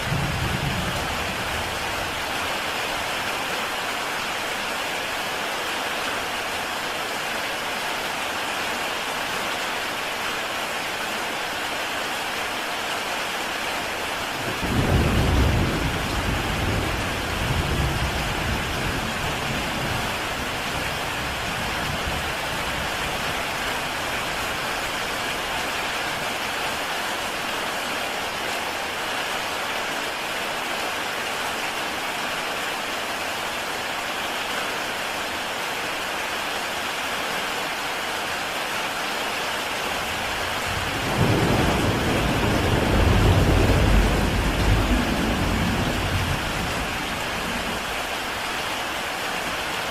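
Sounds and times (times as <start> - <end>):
heavy rain on a tile roof: 0.0 - 49.9.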